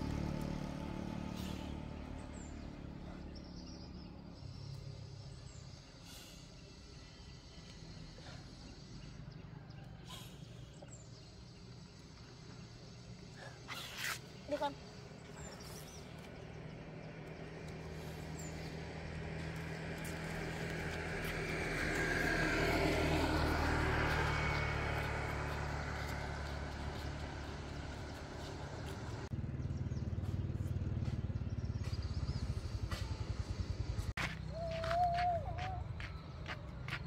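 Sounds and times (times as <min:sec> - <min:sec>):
vehicle driving past: 0:00.0 - 0:13.4, 0:14.9 - 0:35.0.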